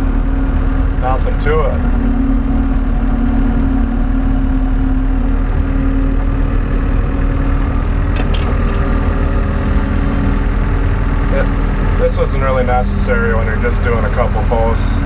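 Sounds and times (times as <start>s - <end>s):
skid steer engine running: 0.0s - 15.0s.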